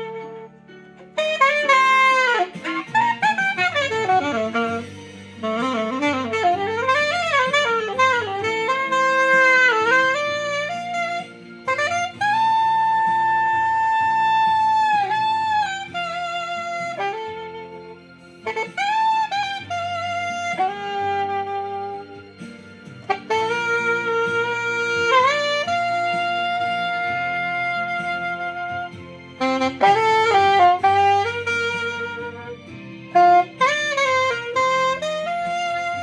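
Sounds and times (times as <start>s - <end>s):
saxophone ballad melody: 0.0s - 36.0s
soft low accompaniment chords: 0.0s - 36.0s.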